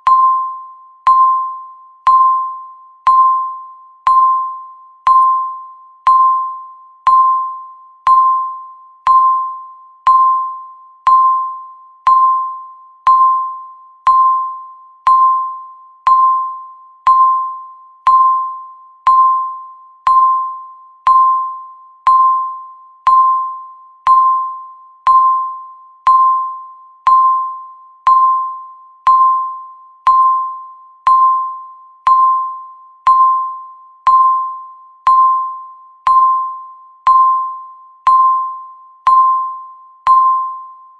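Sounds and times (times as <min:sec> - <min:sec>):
countdown timer beeping: 0:00.0 - 0:40.8.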